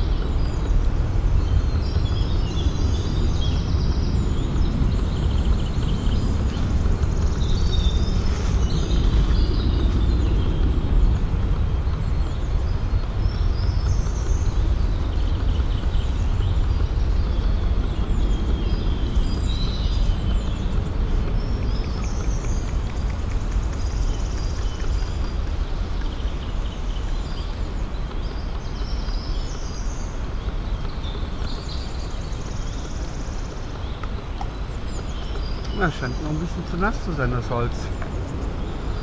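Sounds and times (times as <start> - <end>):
low rumble: 0.0 - 39.0
songbirds chirping: 0.0 - 39.0.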